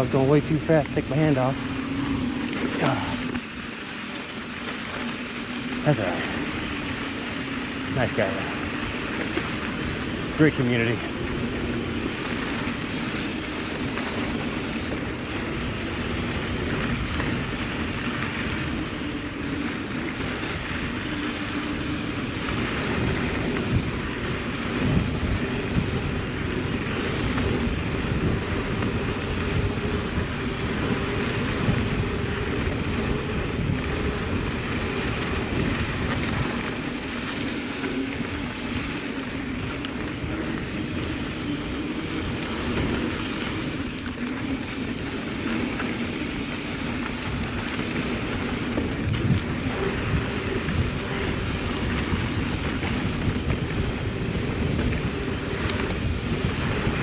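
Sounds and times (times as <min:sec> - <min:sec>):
bike tyres on dirt: 0:00.0 - 0:57.0
wind on microphone: 0:05.0 - 0:57.0.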